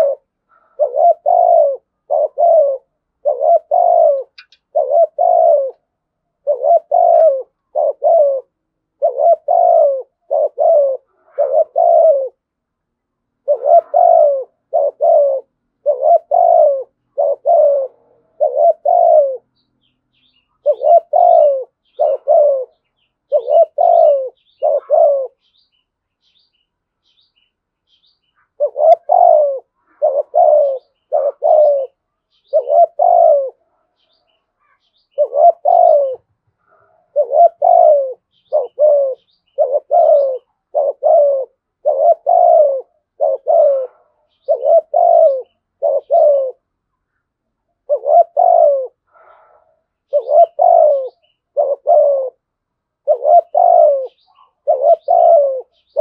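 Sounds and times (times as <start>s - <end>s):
small birds chirping: 0.0s - 8.4s, 13.5s - 52.4s, 53.0s - 56.0s
dove cooing: 0.0s - 12.5s, 13.3s - 25.7s, 28.4s - 46.8s, 47.7s - 56.0s.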